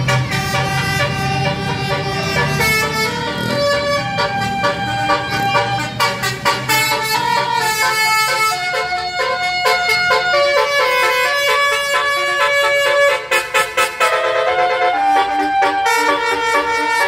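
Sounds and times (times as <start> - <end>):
multi-tone air horn tune: 0.0 - 17.0.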